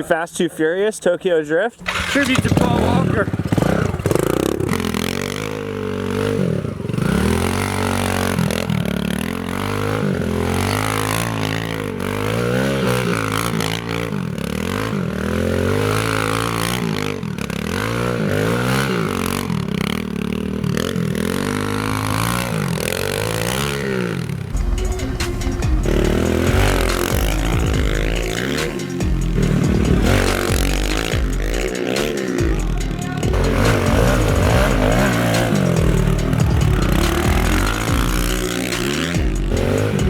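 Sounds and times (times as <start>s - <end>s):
motorbike engine revving: 1.8s - 40.0s.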